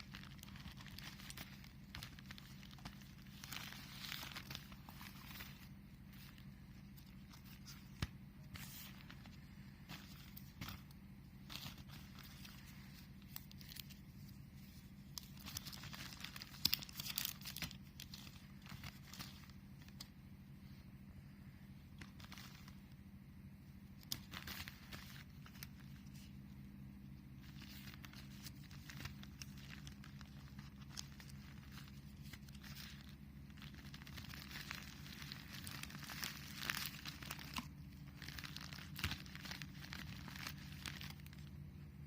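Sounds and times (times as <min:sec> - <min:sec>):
packaging rustling and crinkling: 0:00.0 - 0:20.2, 0:21.8 - 0:23.0, 0:24.0 - 0:26.6, 0:27.3 - 0:41.6
steady low hum: 0:00.0 - 0:42.0.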